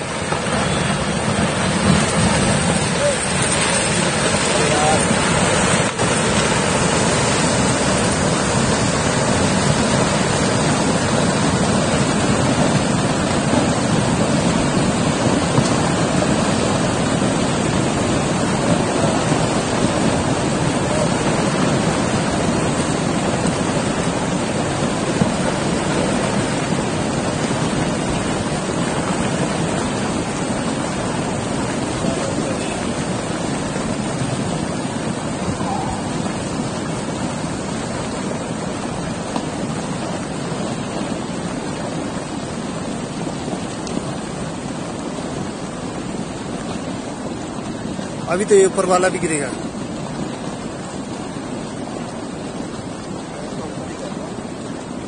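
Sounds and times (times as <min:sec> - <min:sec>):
rock and debris rushing: 0:00.0 - 0:45.6.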